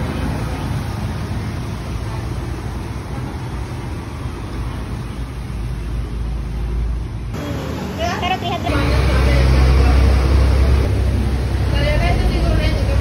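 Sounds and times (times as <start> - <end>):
road vehicle rumble: 0.0 - 13.0
traffic noise: 0.0 - 13.0.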